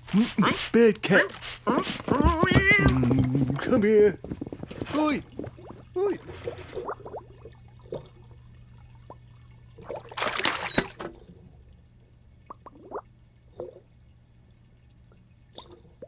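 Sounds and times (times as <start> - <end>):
water drips: 0.0 - 16.0.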